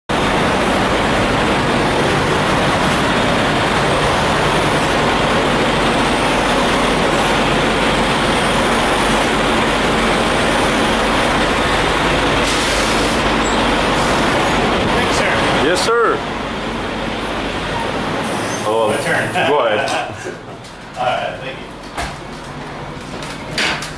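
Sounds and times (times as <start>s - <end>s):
truck diesel engine idling: 0.1s - 19.4s.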